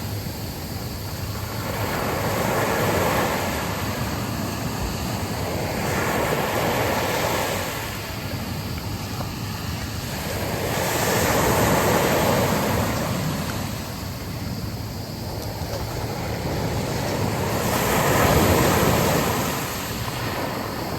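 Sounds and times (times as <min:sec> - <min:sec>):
waves washing onto a beach: 0:00.0 - 0:20.9
wind: 0:00.0 - 0:20.9.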